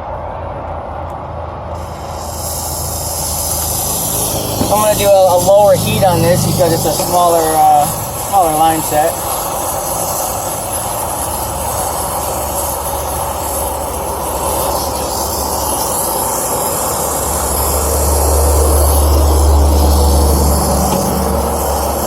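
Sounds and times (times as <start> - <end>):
torch flame rumbling: 1.5 - 22.0.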